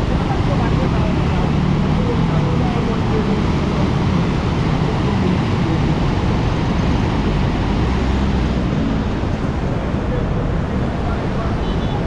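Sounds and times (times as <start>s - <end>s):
water rushing through sluice gate: 0.0s - 12.0s.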